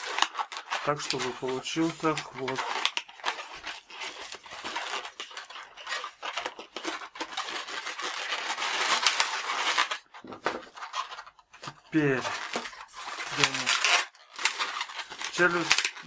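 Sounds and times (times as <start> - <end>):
balloons rubbing: 0.0 - 16.0.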